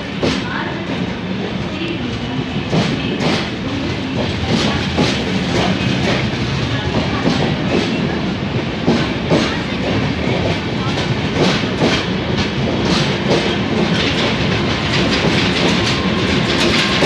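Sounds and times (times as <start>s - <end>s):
train coaches rumbling: 0.0s - 17.0s
wheels clacking over rail joints: 0.0s - 17.0s.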